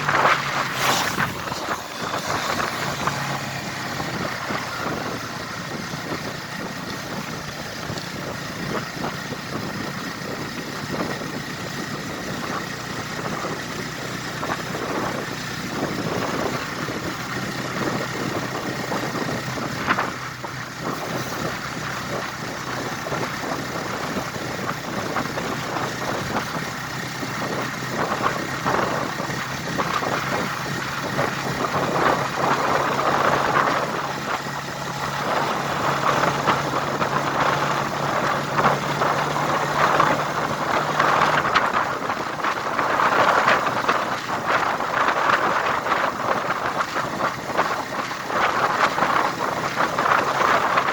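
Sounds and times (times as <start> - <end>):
road noise: 0.0 - 50.9
vehicle engine running: 0.0 - 50.9.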